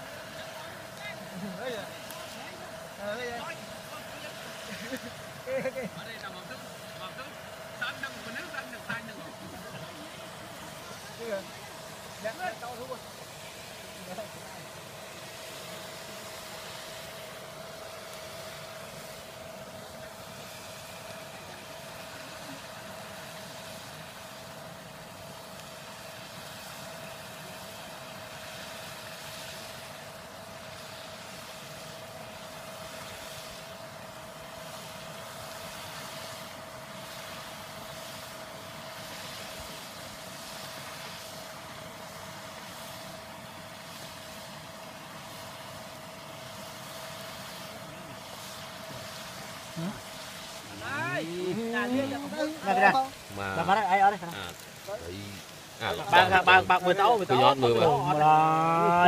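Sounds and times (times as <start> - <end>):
aerator motor hum and whine: 0.0 - 59.0
paddles churning water: 0.0 - 59.0.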